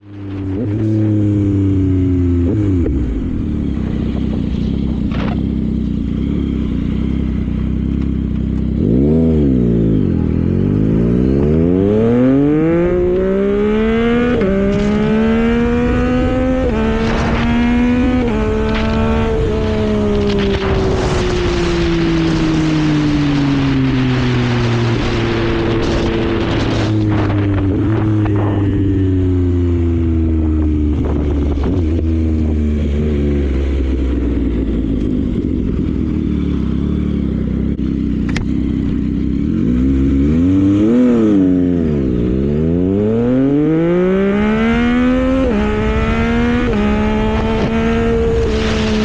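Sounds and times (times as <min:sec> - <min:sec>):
motorcycle engine: 0:00.0 - 0:49.0.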